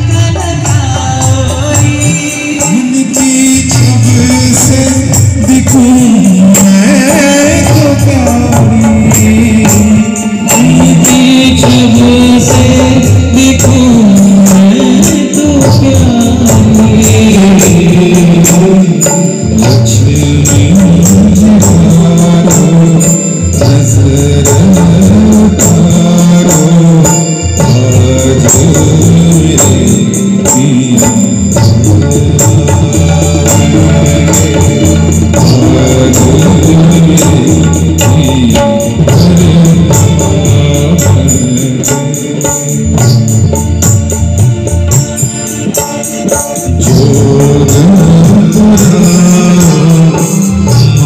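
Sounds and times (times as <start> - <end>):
band music through speakers: 0.0 - 51.0
dhol drum: 0.0 - 51.0
jingling tambourine beat: 0.0 - 51.0
keyboard: 0.0 - 51.0
person singing melody: 0.0 - 51.0.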